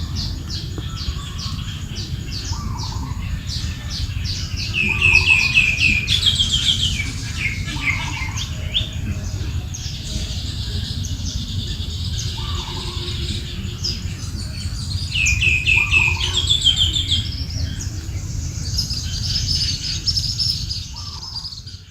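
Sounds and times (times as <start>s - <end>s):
birds chirping and singing: 0.0s - 21.9s
steady low rumble: 0.0s - 21.9s.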